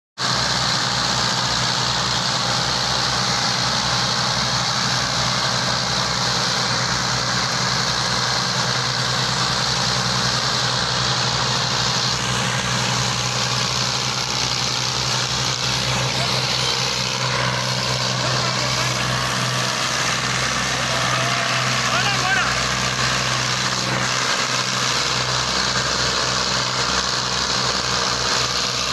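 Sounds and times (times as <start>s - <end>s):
tractor diesel engines running: 0.2s - 28.9s.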